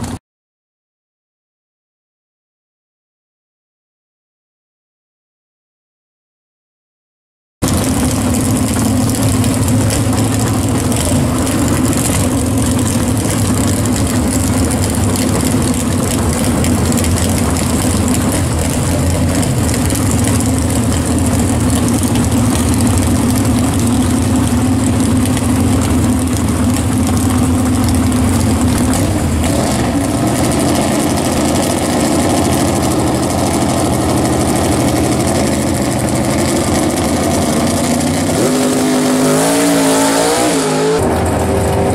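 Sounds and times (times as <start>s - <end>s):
drag car engine idling loudly: 7.6s - 41.9s.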